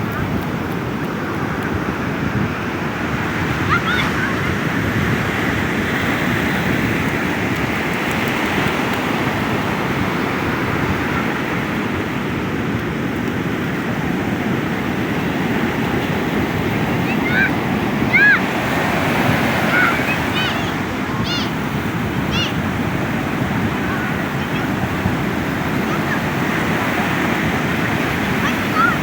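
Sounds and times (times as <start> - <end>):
ocean surf breaking on beach: 0.0 - 29.0.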